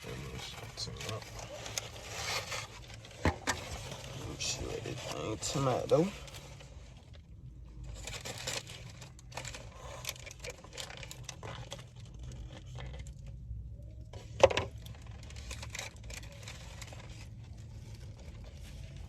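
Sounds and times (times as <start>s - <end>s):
food wrapping crinkling: 0.0s - 19.0s.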